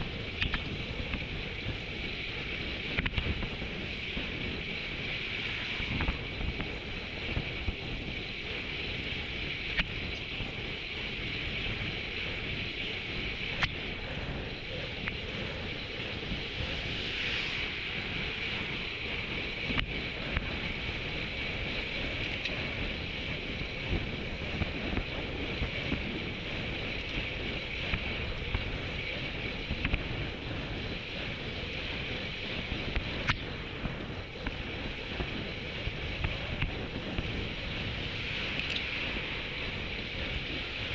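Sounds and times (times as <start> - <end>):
bike rolling on asphalt: 0.0 - 40.9
wind rushing over microphone: 0.0 - 40.9.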